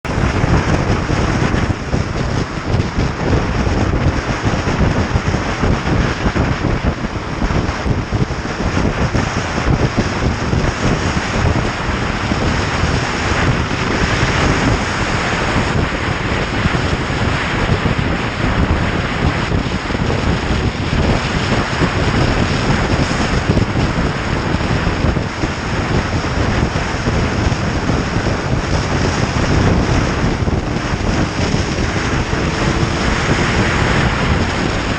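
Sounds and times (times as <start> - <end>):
motorcycle engine: 0.0 - 34.9
road noise: 0.0 - 34.9
wind buffeting microphone: 0.0 - 34.9.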